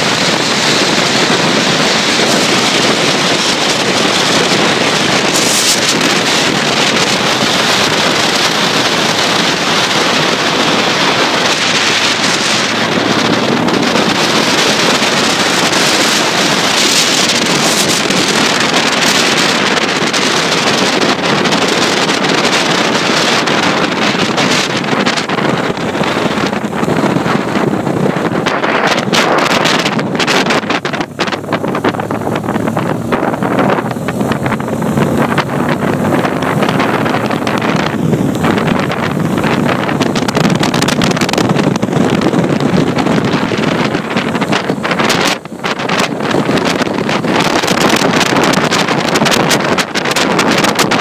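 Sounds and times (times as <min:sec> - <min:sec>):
motorcycle road noise: 0:00.0 - 0:51.0
wind rushing on microphone: 0:00.0 - 0:51.0.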